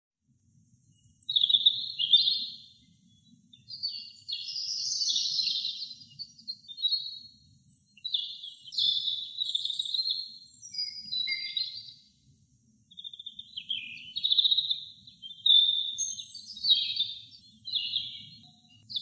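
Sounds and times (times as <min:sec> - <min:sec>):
robin singing warbling phrases: 0:01.1 - 0:02.6, 0:03.5 - 0:07.1, 0:07.7 - 0:12.0, 0:12.9 - 0:19.0.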